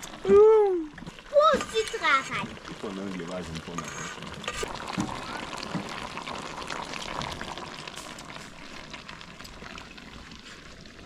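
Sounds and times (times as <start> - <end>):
pot of food bubbling and crackling: 0.0 - 11.0.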